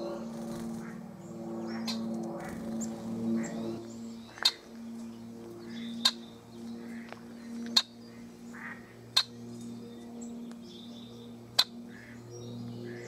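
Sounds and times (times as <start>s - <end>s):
blackbird call notes: 0.0s - 13.0s
steady low hum: 0.0s - 13.0s.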